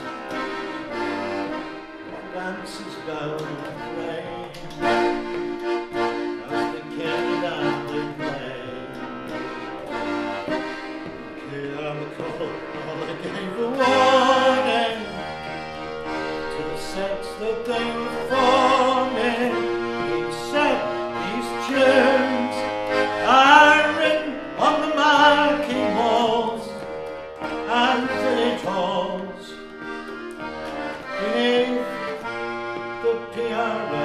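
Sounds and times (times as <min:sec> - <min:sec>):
button accordion playing: 0:00.0 - 0:34.0.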